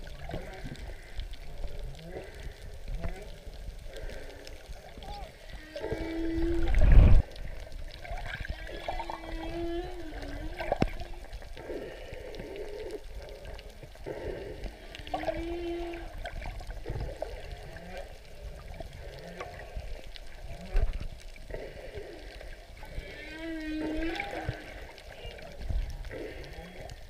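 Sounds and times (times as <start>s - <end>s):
whale song: 0.2s - 27.0s.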